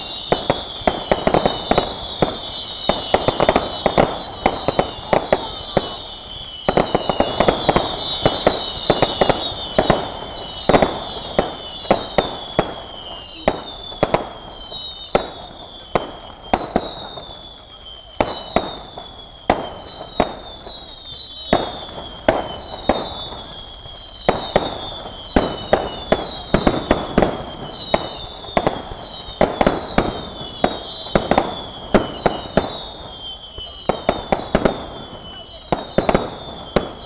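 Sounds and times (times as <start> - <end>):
fireworks bangs: 0.0 - 37.0
fireworks whistling: 0.0 - 37.0.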